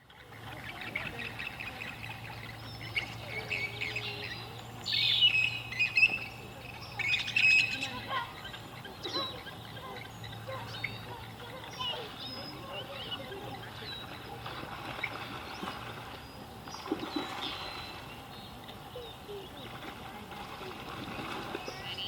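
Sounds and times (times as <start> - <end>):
birds chirping and calling: 0.0 - 22.0
low steady hum: 0.0 - 22.0.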